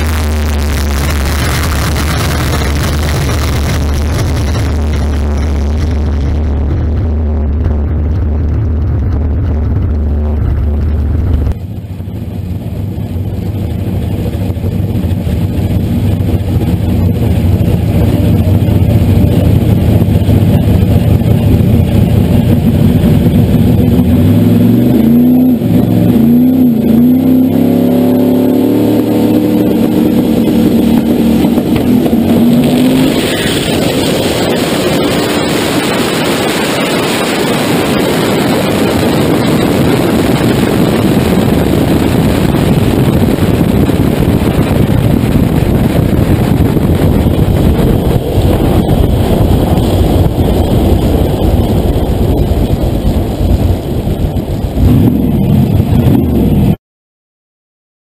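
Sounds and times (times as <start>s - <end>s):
drag car engine revving: 0.0s - 56.8s.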